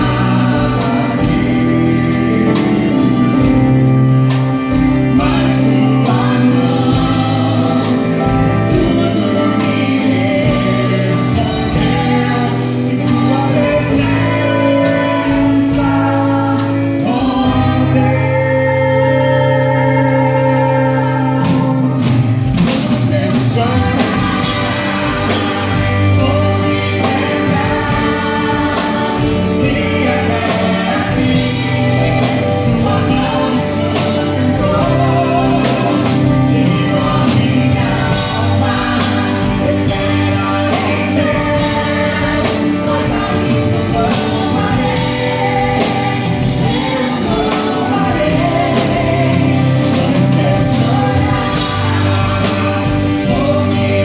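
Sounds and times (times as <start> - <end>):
steady drum beat: 0.0 - 18.3, 21.1 - 54.0
full band accompaniment: 0.0 - 54.0
gospel singing: 0.0 - 54.0.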